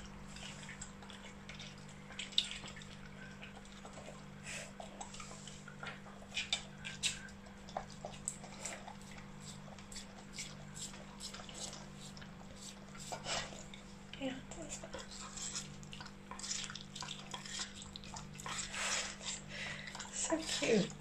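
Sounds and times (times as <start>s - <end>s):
faint steady hum: 0.0s - 21.0s
puppy licking and chewing: 0.0s - 21.0s.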